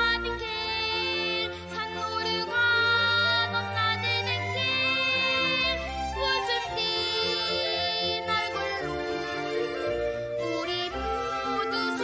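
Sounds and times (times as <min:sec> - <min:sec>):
orchestral children's song: 0:00.0 - 0:12.0.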